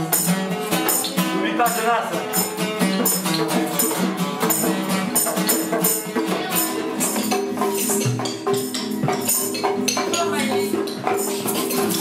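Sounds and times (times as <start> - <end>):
quick percussion beat: 0.0 - 12.0
strummed acoustic guitars: 0.0 - 12.0.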